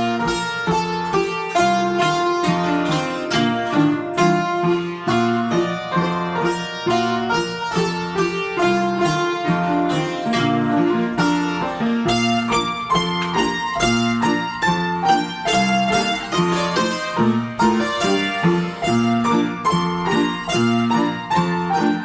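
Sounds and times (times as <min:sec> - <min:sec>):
folk dance tune on strings: 0:00.0 - 0:22.0.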